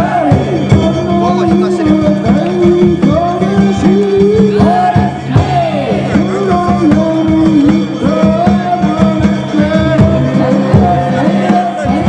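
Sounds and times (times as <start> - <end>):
drums in quick rhythm: 0.0 - 12.0
voices: 0.0 - 12.0.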